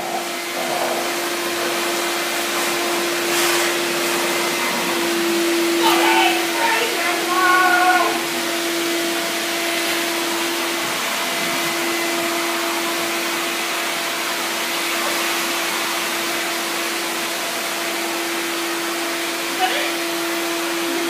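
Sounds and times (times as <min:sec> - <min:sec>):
vacuum cleaner motor: 0:00.0 - 0:21.0.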